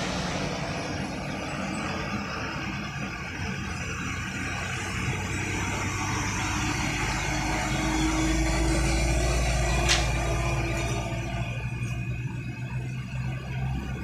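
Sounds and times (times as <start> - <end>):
diesel truck engine passing: 0.0 - 14.0
engine whine: 0.0 - 14.0.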